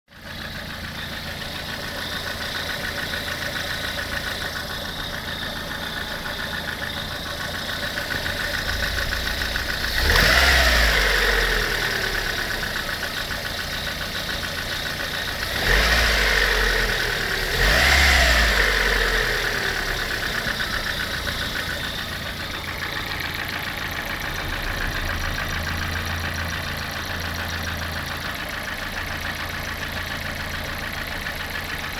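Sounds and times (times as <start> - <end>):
car engine idling and revving: 0.1 - 31.9.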